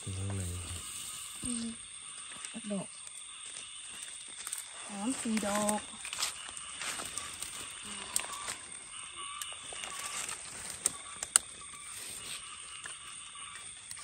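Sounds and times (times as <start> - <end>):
steady high-pitched background: 0.0 - 14.0.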